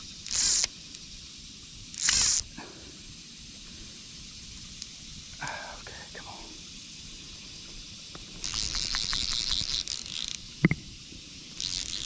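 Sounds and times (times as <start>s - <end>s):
fly line hissing through rod guides: 0.0s - 12.0s.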